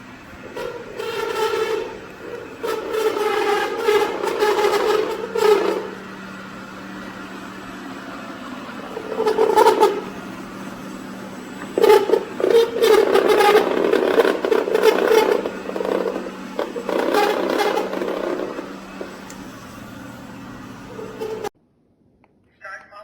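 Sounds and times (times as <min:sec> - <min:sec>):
brushes whirring and scraping on rug: 0:00.0 - 0:21.5
robot vacuum humming: 0:00.0 - 0:21.5.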